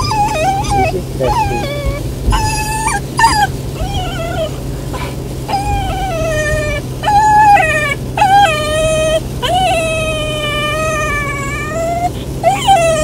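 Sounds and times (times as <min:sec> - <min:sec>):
puppy whining: 0:00.0 - 0:13.0.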